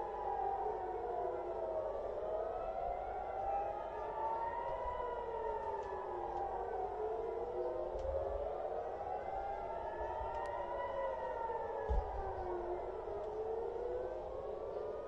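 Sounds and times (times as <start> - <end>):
air-raid sirens wailing: 0.0 - 15.0.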